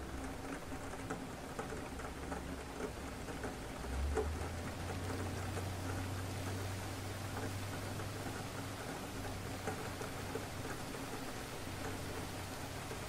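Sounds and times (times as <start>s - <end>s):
rain pattering: 0.0s - 13.0s
raindrop ticks: 0.0s - 13.0s.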